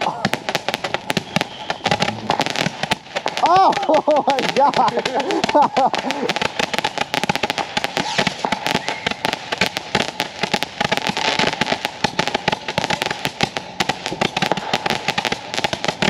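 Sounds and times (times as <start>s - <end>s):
fireworks crackling pops: 0.0s - 16.0s.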